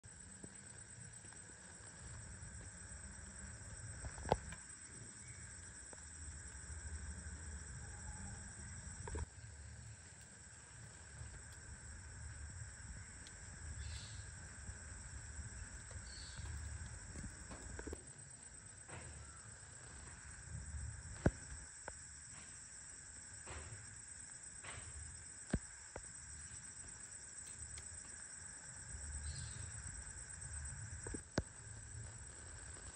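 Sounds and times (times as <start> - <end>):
insects droning: 0.0 - 32.9.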